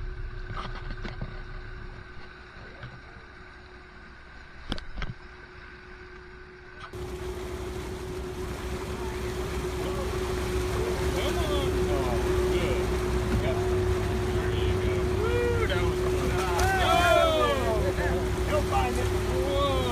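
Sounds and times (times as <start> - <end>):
boat engine humming: 0.0 - 19.9
wind and water noise: 0.0 - 19.9.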